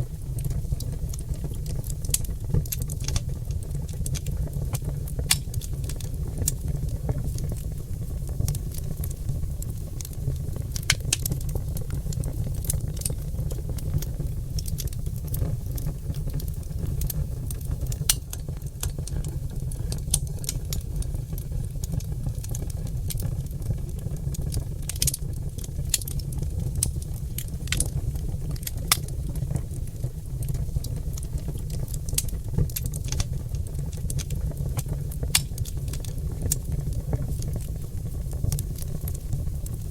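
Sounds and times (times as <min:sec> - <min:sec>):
logs burning crackling and popping: 0:00.0 - 0:39.9.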